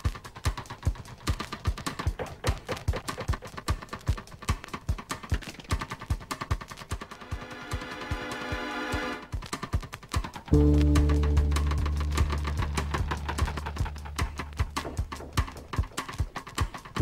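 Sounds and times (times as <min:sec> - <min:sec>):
fast driving drum beat: 0:00.0 - 0:17.0.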